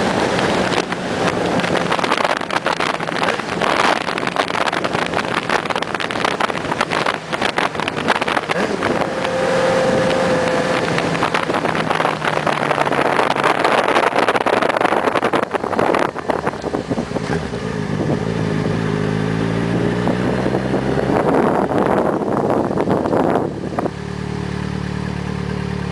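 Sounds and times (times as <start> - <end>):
wind rush on microphone: 0.0 - 24.1
motorcycle engine: 0.0 - 25.9.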